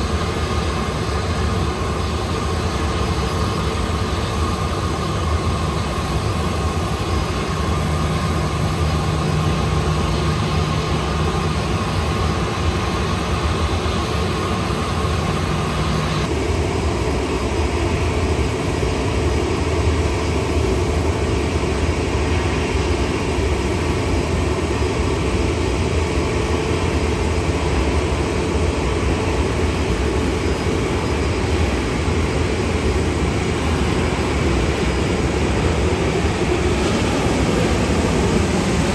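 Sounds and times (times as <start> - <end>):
airliner engine noise on approach: 0.0 - 38.9
jet engines rumbling and whining: 0.0 - 38.9.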